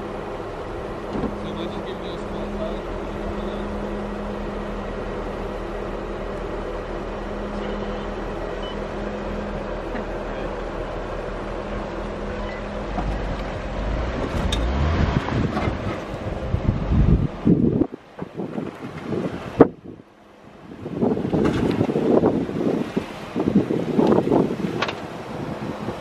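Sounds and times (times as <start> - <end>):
car engines idling: 0.0 - 26.0
low engine rumble: 0.0 - 26.0.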